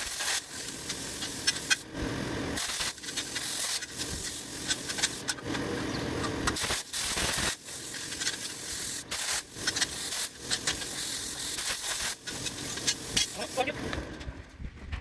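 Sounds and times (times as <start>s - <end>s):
plasma cutter hissing: 0.0s - 5.5s, 6.2s - 14.0s.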